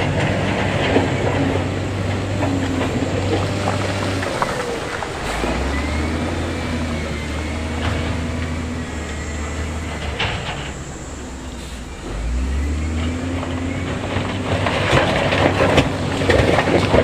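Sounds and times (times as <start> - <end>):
diesel engine running: 0.0 - 17.0
knocks and clanks: 0.0 - 17.0.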